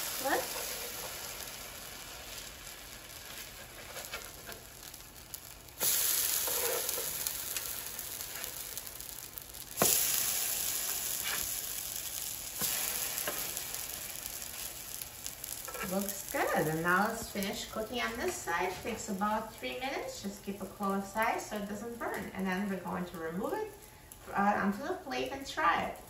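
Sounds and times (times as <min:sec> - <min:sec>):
french toast sizzling in butter: 0:00.0 - 0:24.1.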